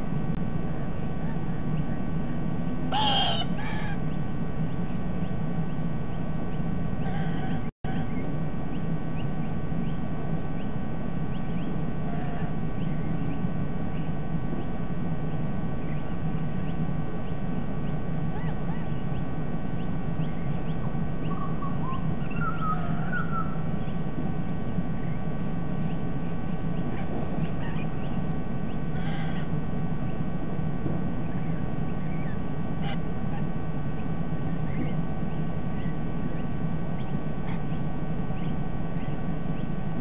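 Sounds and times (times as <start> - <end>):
low background rumble: 0.0 - 40.0
bird calls: 2.9 - 24.1, 24.9 - 30.2, 31.2 - 39.8.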